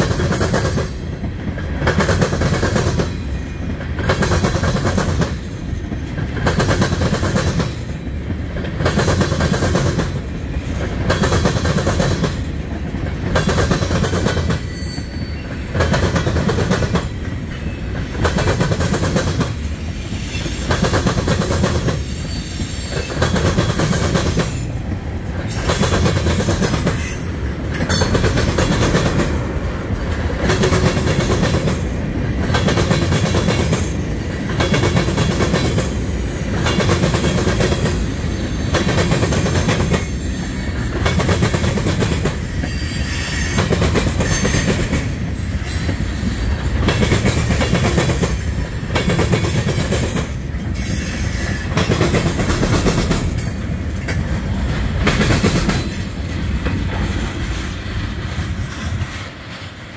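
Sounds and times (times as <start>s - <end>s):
train cars rumbling past: 0.0s - 59.9s
train wheels clacking on rails: 0.0s - 59.9s.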